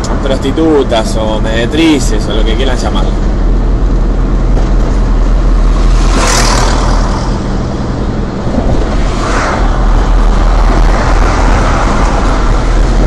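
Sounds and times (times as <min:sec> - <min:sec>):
car engine hum and road noise: 0:00.0 - 0:13.0
vehicles passing: 0:00.0 - 0:13.0.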